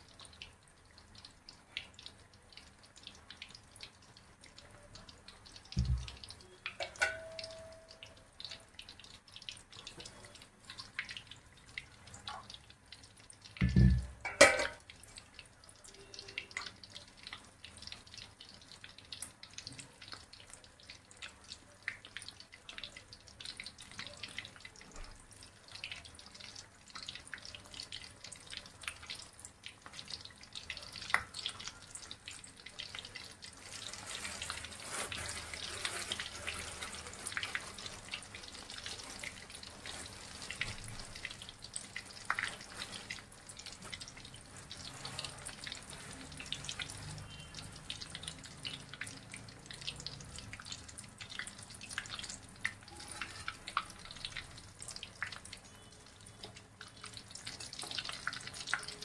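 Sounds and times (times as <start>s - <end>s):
deep-frying sizzle with crackles: 0.0s - 59.0s.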